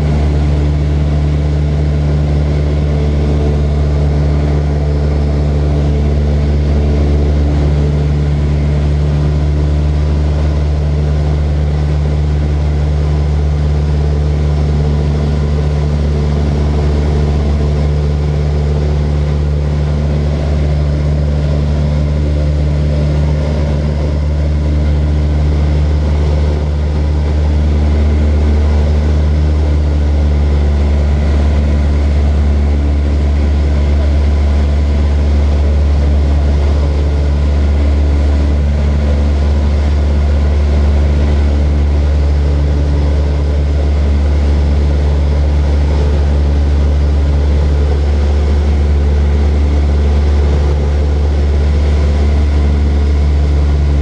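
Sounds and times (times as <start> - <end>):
propeller aircraft engine drone: 0.0 - 54.0.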